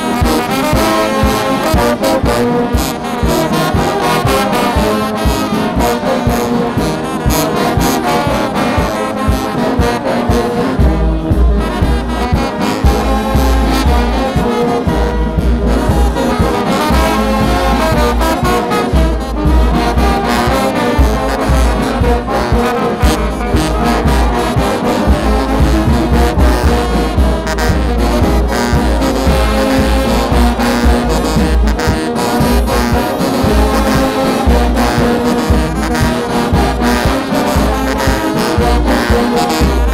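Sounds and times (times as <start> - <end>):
brass band horns playing: 0.0 - 39.9.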